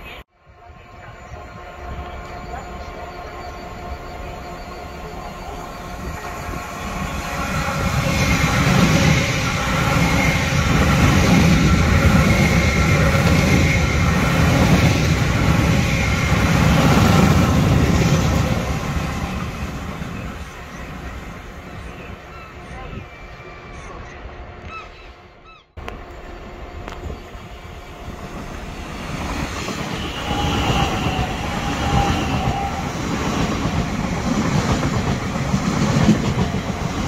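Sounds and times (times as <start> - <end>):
passenger train passing at speed: 0.0 - 37.0.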